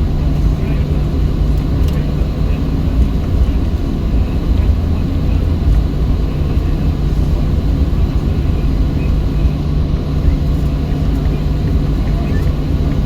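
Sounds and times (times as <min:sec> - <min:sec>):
aircraft cabin low rumble: 0:00.0 - 0:13.0
jet engines humming: 0:00.0 - 0:13.0.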